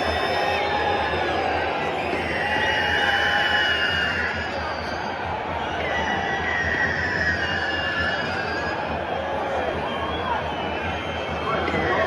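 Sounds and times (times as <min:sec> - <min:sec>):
stadium crowd din: 0:00.0 - 0:12.0.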